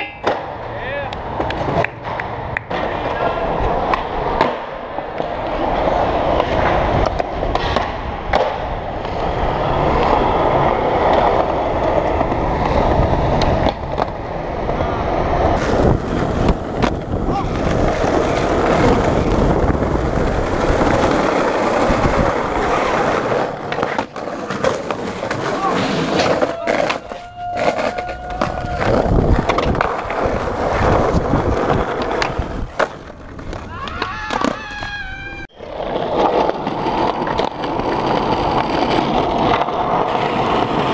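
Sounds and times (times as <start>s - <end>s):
skateboard clacks: 0.0s - 40.9s
skateboard wheels rolling on pavement: 0.0s - 40.9s.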